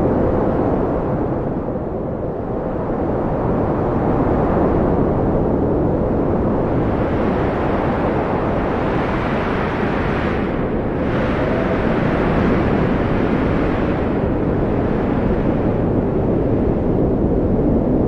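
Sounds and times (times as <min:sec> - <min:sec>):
wind blowing: 0:00.0 - 0:18.0.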